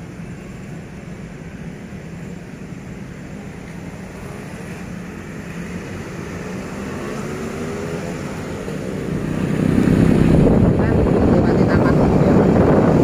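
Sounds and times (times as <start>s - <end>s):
road noise: 0.0s - 13.0s
vehicle engine: 0.0s - 13.0s.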